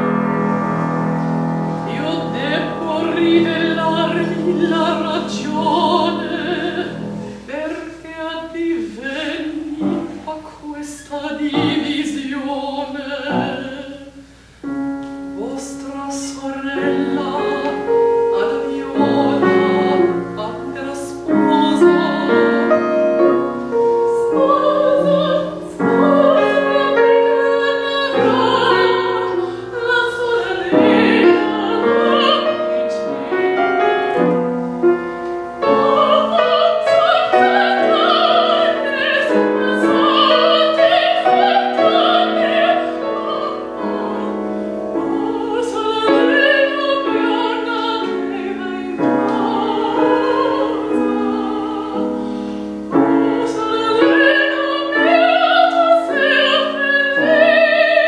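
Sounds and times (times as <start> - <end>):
piano: 0.0 - 58.0
woman singing operatically: 1.9 - 14.2, 15.4 - 34.0, 35.6 - 52.2, 52.9 - 58.0.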